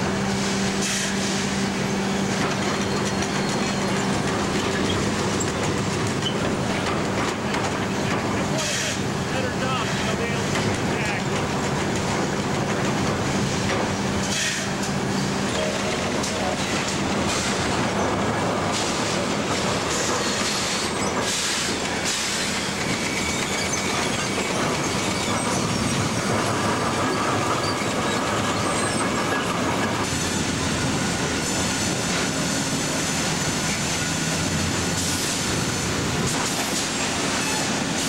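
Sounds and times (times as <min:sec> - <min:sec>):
sawmill machinery rattling and clanking: 0:00.0 - 0:38.0.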